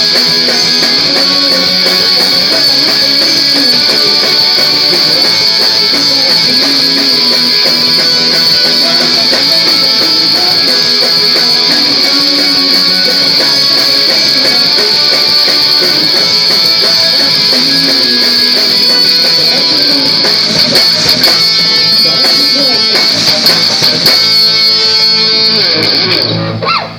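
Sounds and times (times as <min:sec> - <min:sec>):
electric guitar: 0:00.0 - 0:26.9
live rock band playing: 0:00.0 - 0:26.9.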